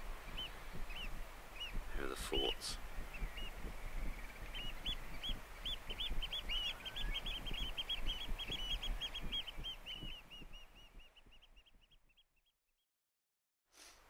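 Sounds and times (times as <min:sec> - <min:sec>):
flock of birds calling: 0:00.0 - 0:11.9.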